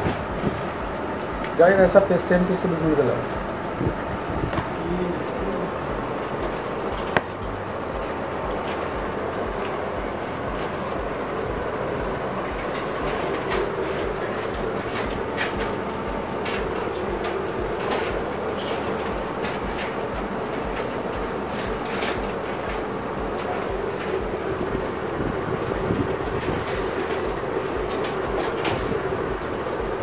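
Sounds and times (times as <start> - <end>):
mechanical hum with low throb: 0.0 - 30.0.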